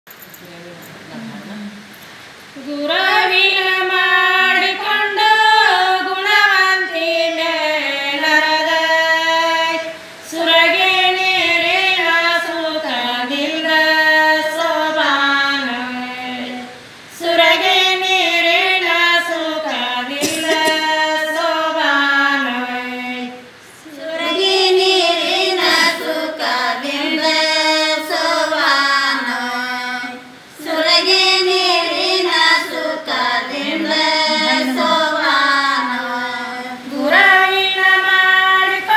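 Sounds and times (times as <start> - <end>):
women singing unaccompanied: 1.1 - 38.9.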